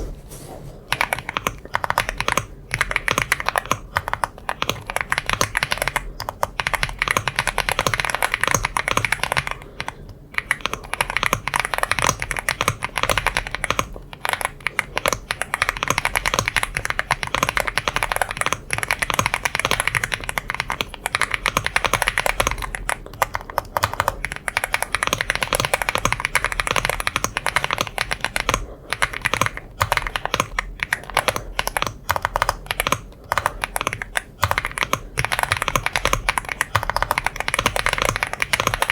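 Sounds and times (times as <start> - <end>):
mechanical keyboard typing: 0.9 - 38.9.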